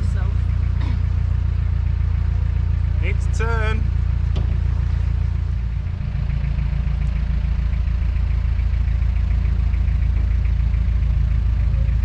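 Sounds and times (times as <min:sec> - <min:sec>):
diesel boat engine droning: 0:00.0 - 0:12.0.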